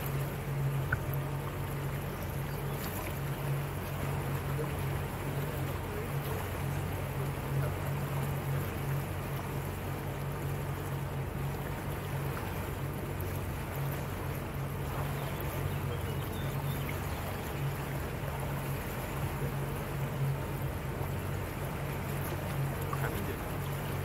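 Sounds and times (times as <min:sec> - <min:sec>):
motorboat engine running: 0:00.0 - 0:24.0
water rushing along hull: 0:00.0 - 0:24.0.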